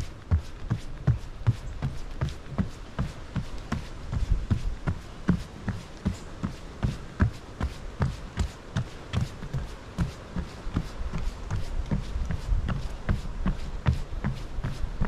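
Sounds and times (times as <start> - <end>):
running footsteps on wooden boards: 0.0 - 15.0.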